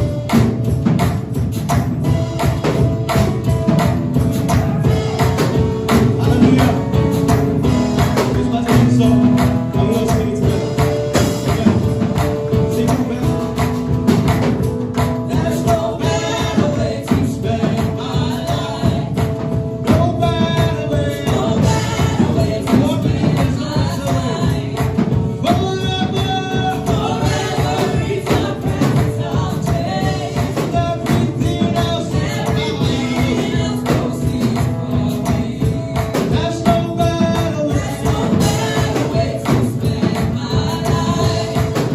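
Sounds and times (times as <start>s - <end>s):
gospel music beat: 0.0s - 41.9s
voices singing: 2.7s - 14.2s, 15.1s - 41.9s.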